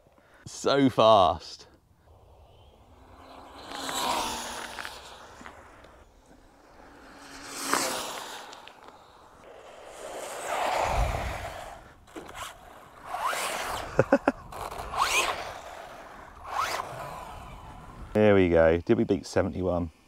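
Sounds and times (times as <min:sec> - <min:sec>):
rc car motor whine: 0:02.1 - 0:18.2.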